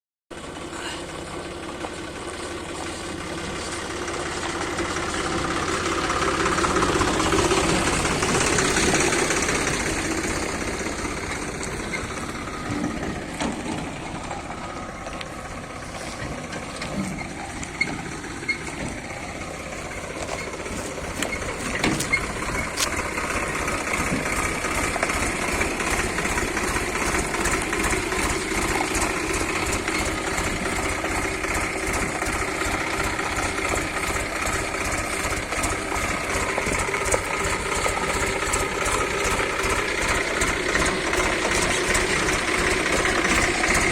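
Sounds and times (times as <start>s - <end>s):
tractor diesel engine throbbing: 0.3s - 43.9s.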